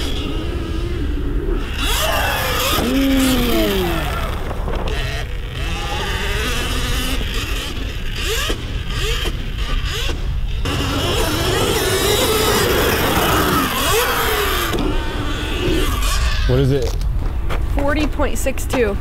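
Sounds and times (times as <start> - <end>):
electric motorbike motor whining: 0.0 - 16.6.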